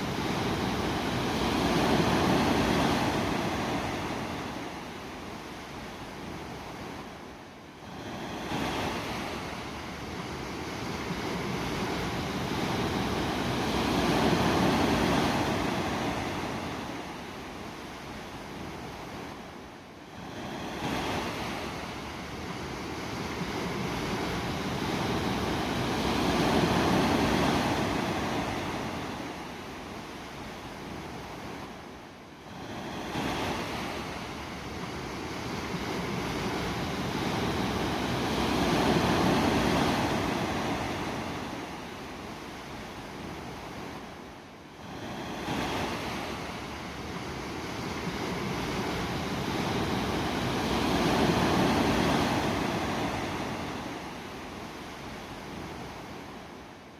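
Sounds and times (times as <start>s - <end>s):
sea waves washing in: 0.0s - 56.9s.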